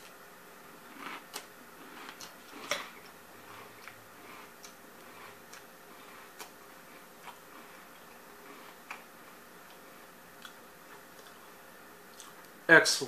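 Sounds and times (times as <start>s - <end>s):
chewing crunchy cereal: 0.0s - 12.5s.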